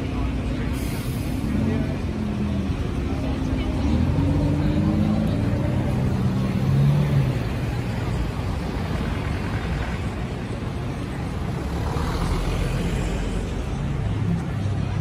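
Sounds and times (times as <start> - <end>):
crowd voices: 0.0 - 15.0
traffic engines rumbling: 0.0 - 15.0.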